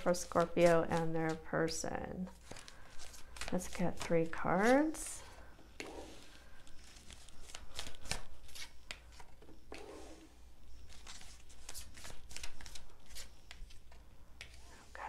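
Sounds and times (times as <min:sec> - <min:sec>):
cards brushing on cloth: 0:02.4 - 0:14.9.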